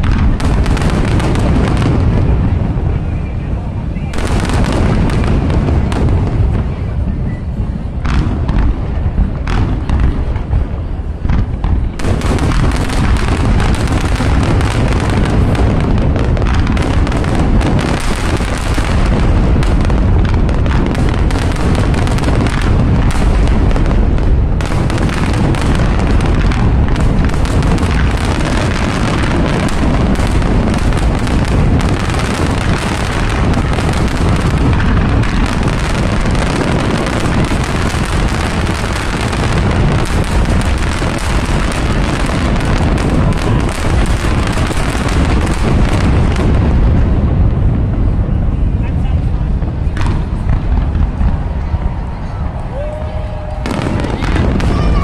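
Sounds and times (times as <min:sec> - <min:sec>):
fireworks bursting: 0:00.0 - 0:55.0
fireworks crackling: 0:00.0 - 0:55.0.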